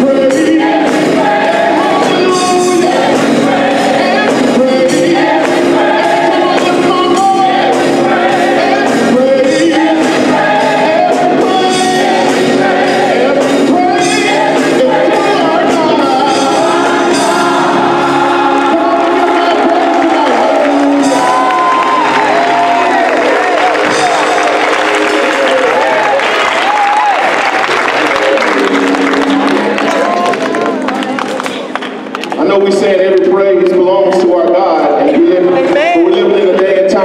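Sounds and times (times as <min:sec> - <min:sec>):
drum kit beat: 0:00.0 - 0:30.1
gospel choir singing: 0:00.0 - 0:30.8, 0:32.4 - 0:37.0
organ: 0:00.0 - 0:37.0.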